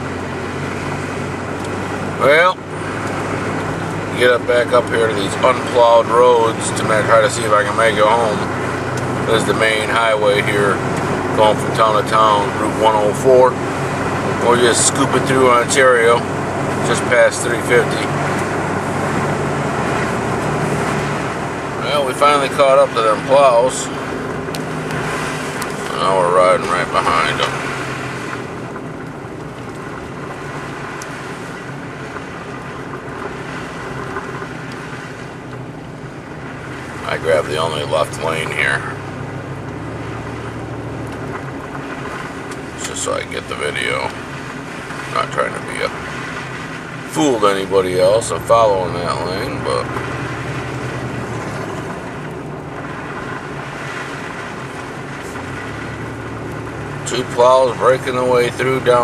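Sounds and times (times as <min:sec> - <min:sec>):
road and tyre noise: 0:00.0 - 0:59.0
vehicle engine hum: 0:00.0 - 0:59.0.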